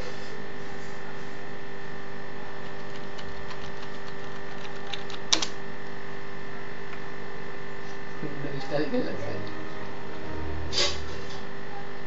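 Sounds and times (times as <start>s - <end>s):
computer whirring hum: 0.0s - 12.0s.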